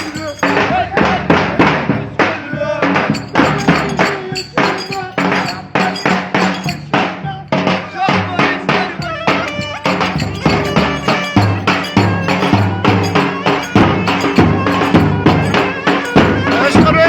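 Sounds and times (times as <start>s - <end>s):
folk dance melody: 0.0s - 7.1s, 9.0s - 17.0s
driving drum beat: 0.0s - 7.4s, 8.8s - 17.0s.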